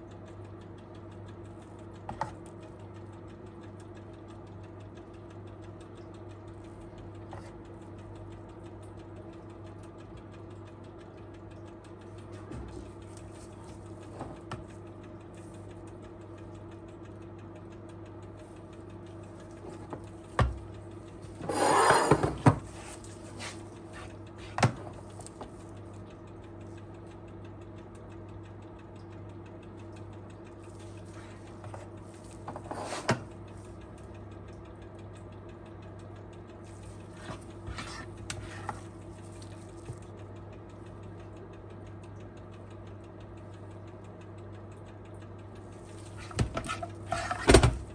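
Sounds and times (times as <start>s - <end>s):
appliance hum: 0.0s - 47.9s.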